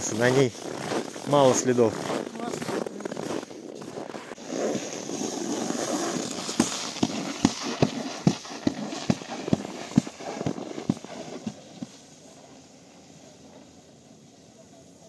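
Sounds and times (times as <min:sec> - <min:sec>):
footsteps crunching in snow: 0:00.0 - 0:12.2.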